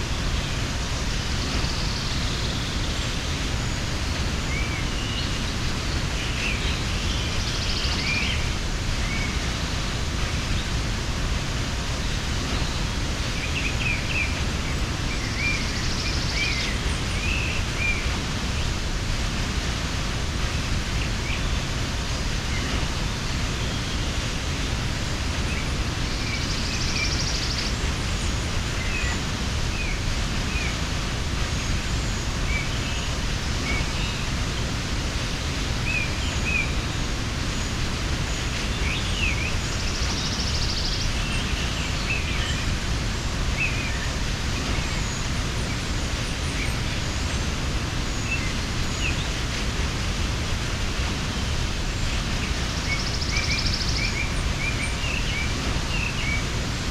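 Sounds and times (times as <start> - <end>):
waterfall rushing: 0.0 - 56.9
small birds chirping: 0.1 - 56.9.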